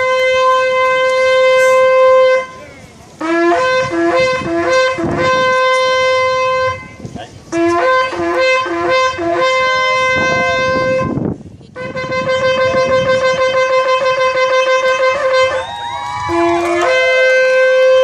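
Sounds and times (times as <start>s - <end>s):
shofar blasts: 0.0s - 18.0s.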